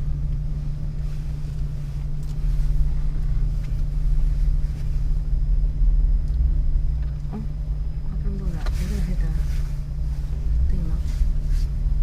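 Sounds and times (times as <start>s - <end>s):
engine idling low rumble: 0.0s - 12.0s.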